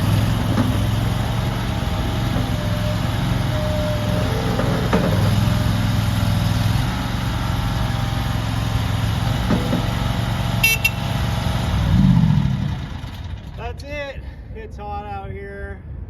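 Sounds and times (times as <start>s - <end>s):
loader engine running: 0.0s - 13.8s.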